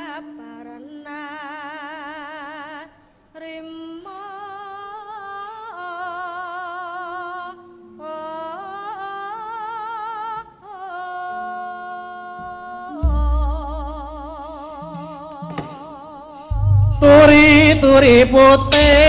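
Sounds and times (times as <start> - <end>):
woman singing long held notes: 0.0 - 19.0.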